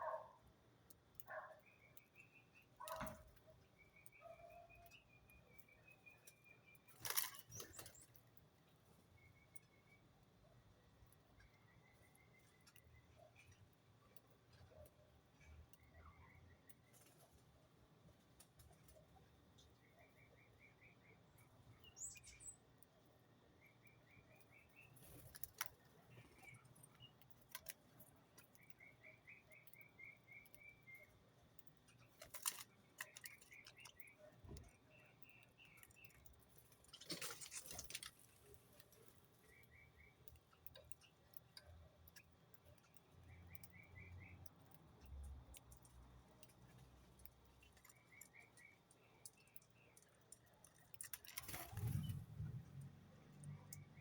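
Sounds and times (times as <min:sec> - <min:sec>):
small bird chirping: 0:01.1 - 0:17.3, 0:18.8 - 0:54.0.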